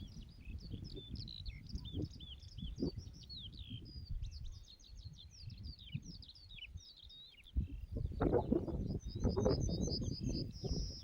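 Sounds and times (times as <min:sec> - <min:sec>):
small birds singing and chirping: 0:00.0 - 0:11.0.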